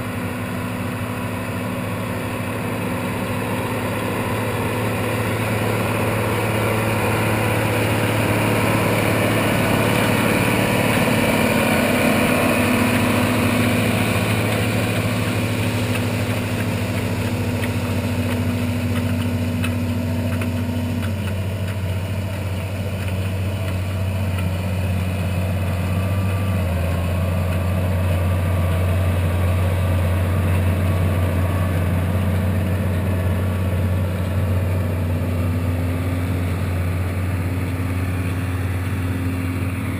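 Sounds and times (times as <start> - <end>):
tractor diesel engine drone: 0.0 - 39.9.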